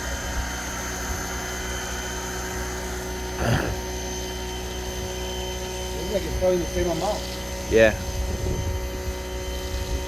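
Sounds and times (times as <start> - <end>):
pressure washer motor hum: 0.0 - 10.0.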